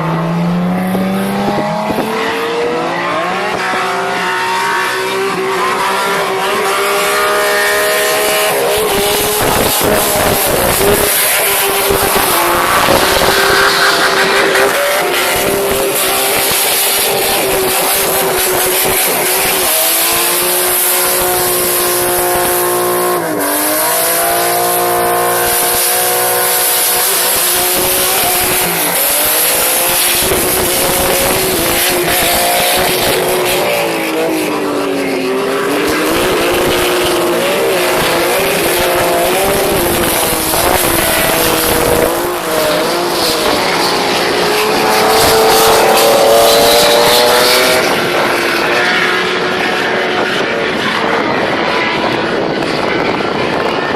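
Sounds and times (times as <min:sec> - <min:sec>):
car engine at high revs: 0:00.0 - 0:53.9.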